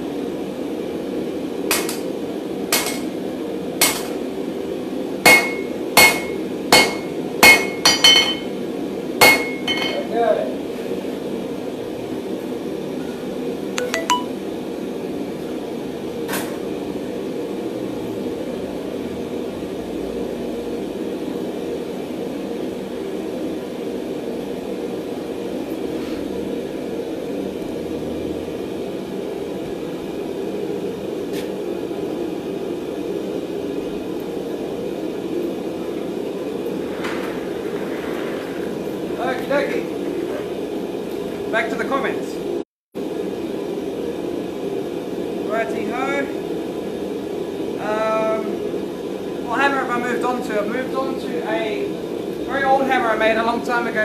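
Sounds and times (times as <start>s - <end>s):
forge mechanical hum: 0.0s - 54.0s.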